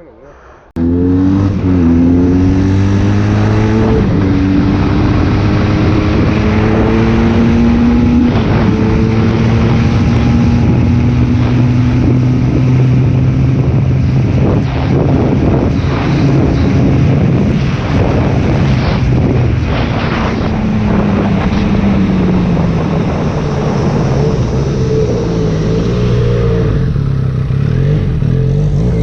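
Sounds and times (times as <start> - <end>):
wind noise on microphone: 1.1 - 29.0.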